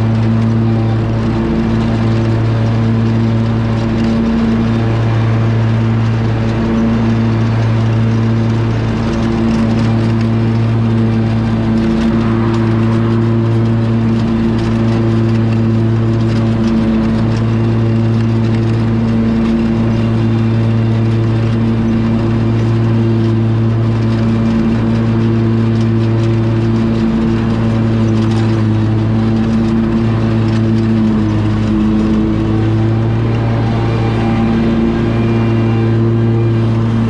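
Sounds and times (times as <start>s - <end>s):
riding mower engine running: 0.0s - 37.0s.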